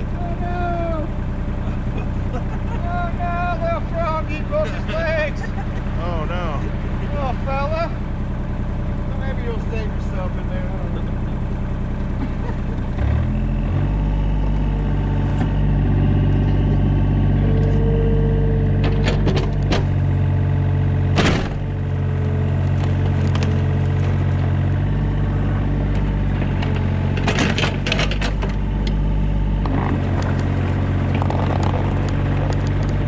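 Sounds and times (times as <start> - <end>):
excavator engine running: 0.0 - 33.0.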